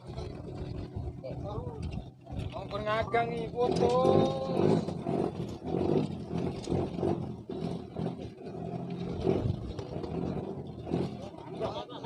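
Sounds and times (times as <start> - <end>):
water noise: 0.0 - 11.6
boat engine running: 0.0 - 12.0.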